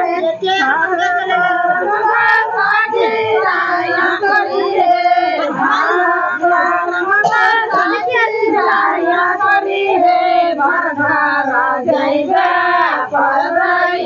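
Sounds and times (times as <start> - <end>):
group of women singing: 0.0 - 14.0.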